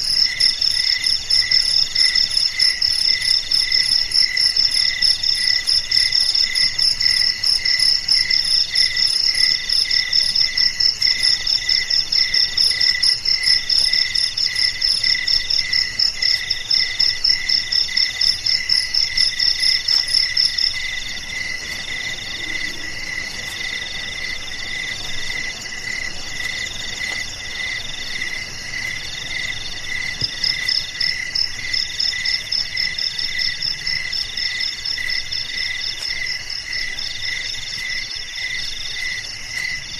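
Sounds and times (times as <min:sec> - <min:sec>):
crickets slower chirp: 0:00.0 - 0:39.9.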